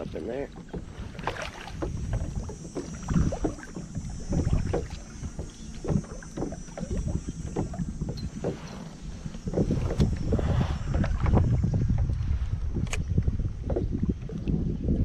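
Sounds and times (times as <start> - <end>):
paddle strokes in water: 0.0 - 15.0
wind on microphone: 0.0 - 15.0.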